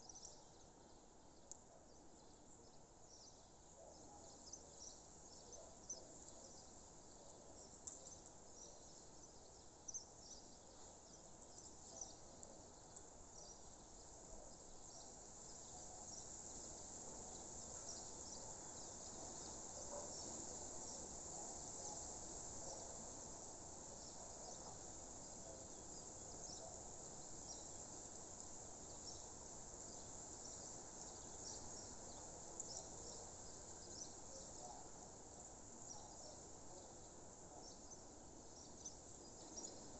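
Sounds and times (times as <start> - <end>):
soft hiss: 4.4 - 39.9.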